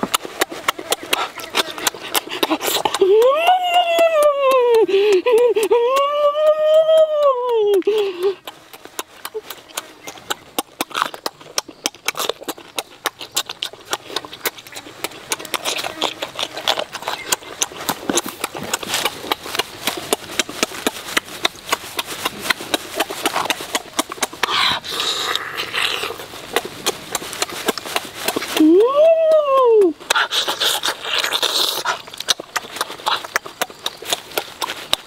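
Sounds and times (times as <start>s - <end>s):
chewing and mouth sounds: 0.0s - 35.0s.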